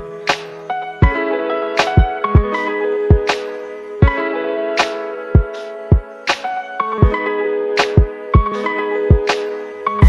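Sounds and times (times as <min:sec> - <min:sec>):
plucked-string music over a beat: 0:00.0 - 0:10.0.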